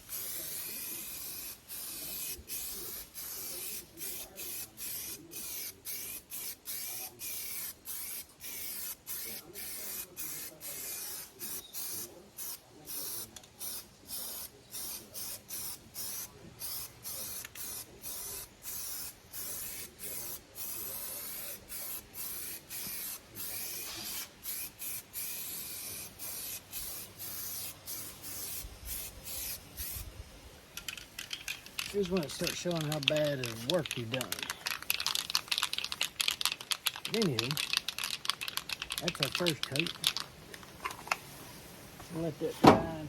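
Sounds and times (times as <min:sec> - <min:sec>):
aerosol spray can hissing: 0:00.0 - 0:30.1, 0:30.8 - 0:40.3.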